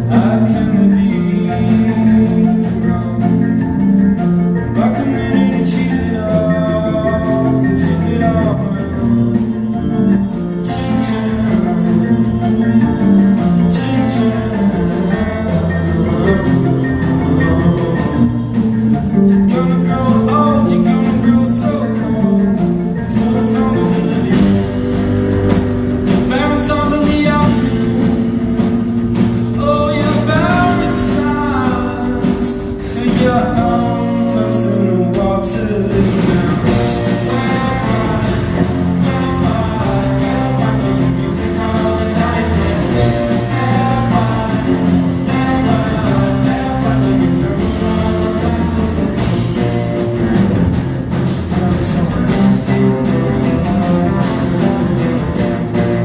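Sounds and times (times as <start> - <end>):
low bass line: 0.0 - 56.0
person singing: 0.0 - 56.0
plucked guitar: 0.0 - 56.0
sustained instrumental notes: 0.0 - 56.0.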